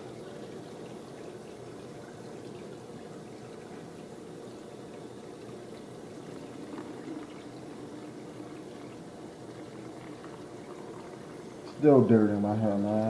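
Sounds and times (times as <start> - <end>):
water running from faucet: 0.0 - 13.0.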